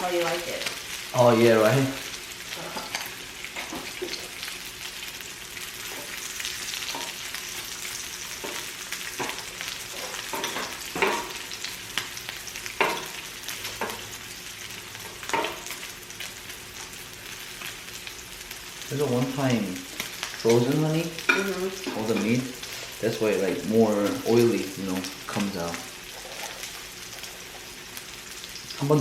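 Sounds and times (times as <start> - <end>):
pork sizzling on a grill: 0.0 - 29.0.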